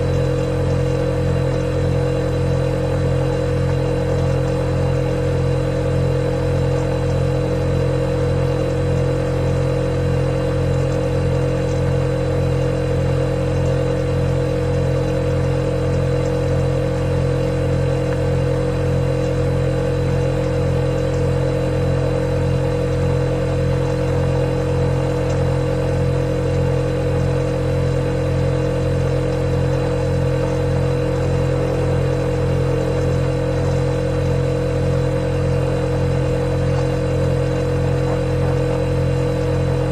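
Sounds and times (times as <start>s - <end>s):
refrigerator hum: 0.0s - 39.9s.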